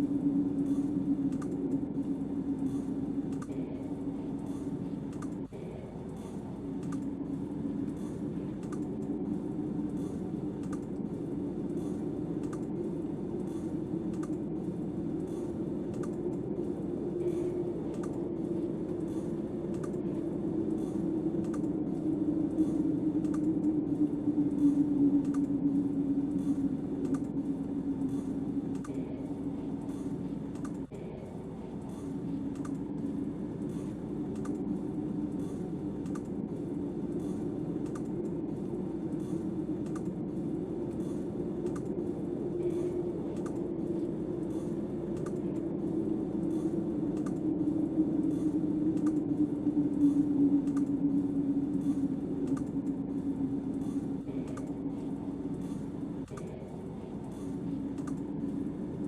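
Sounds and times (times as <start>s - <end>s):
faint crackling clicks: 0.0s - 59.0s
low rushing noise: 0.0s - 59.0s.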